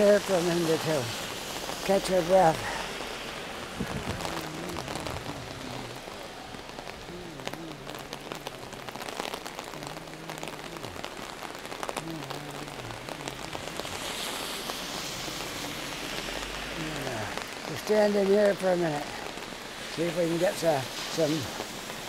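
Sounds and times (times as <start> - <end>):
heavy rain falling: 0.0 - 22.0
raindrops ticking close by: 0.0 - 22.0.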